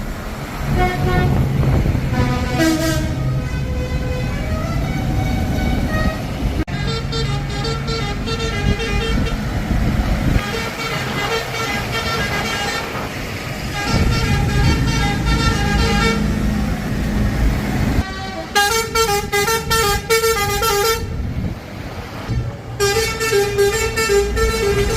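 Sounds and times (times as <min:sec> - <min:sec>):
tractor engines running: 0:00.0 - 0:24.9
tractor horns tooting: 0:00.7 - 0:09.7, 0:10.4 - 0:16.6, 0:18.0 - 0:21.3, 0:22.3 - 0:24.9.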